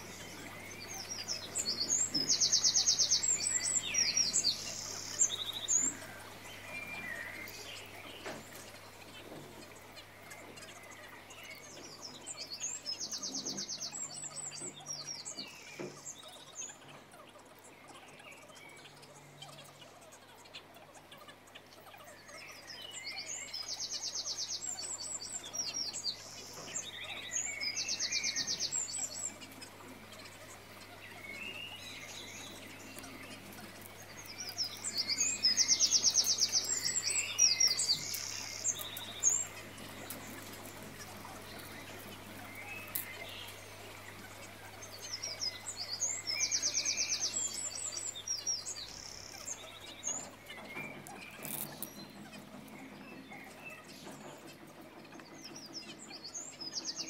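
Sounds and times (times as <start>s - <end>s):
birdsong chirps and buzzy trills: 0.0s - 57.0s.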